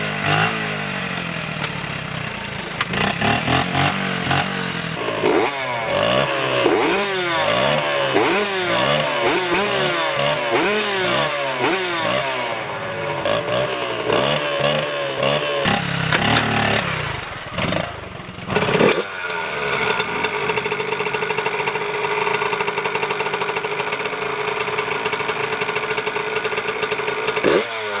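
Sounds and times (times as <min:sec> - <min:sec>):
dirt bike engine revving: 0:00.0 - 0:23.6, 0:26.4 - 0:28.0.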